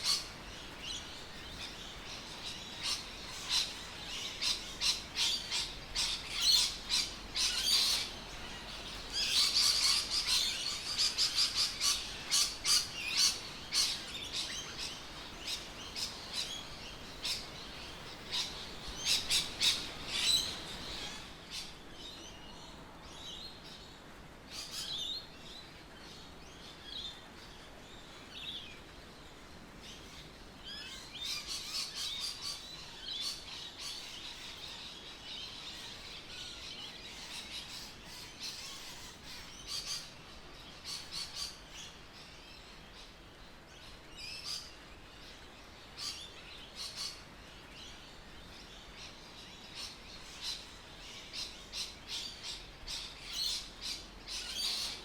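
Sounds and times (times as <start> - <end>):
birds chirping and singing: 0.0 - 22.4, 30.7 - 55.0.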